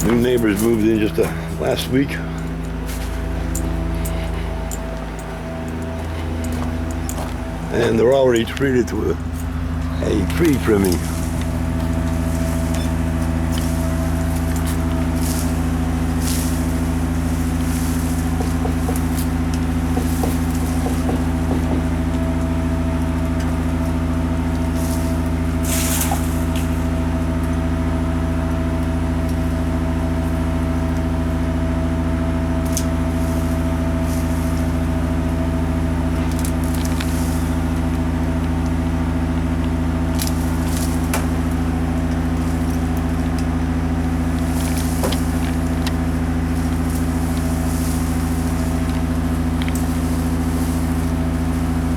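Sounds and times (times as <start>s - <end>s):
truck engine humming: 0.0s - 51.9s.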